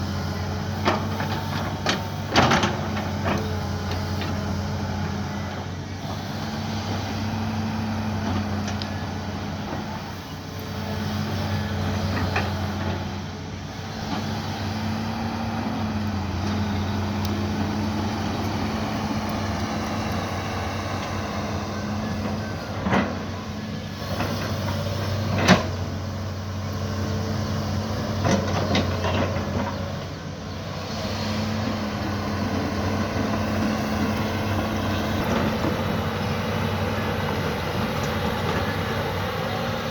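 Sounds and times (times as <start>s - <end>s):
mini excavator engine humming: 0.0s - 39.9s.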